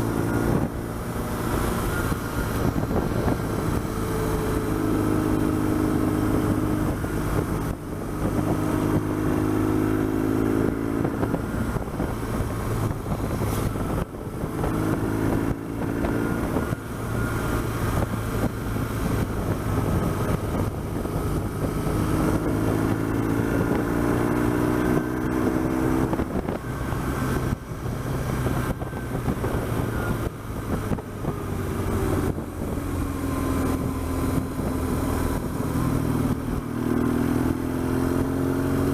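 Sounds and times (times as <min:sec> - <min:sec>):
motorcycle engine revving: 0:00.0 - 0:38.9
wind noise on microphone: 0:00.0 - 0:38.9.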